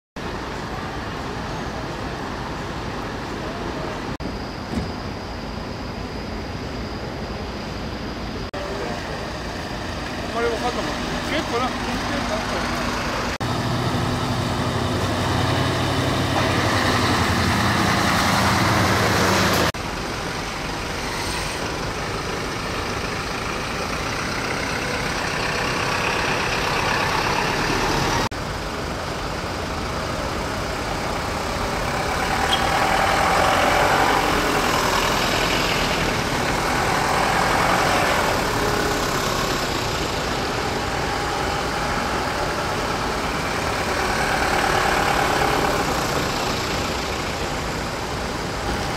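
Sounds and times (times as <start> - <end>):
diesel trucks driving past: 8.5 - 48.9
tyres on wet road: 8.5 - 48.9.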